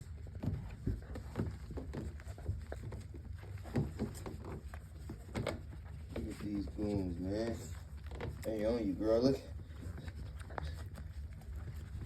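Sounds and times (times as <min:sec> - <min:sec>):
puppies nursing clicks and sucking: 0:00.0 - 0:12.0.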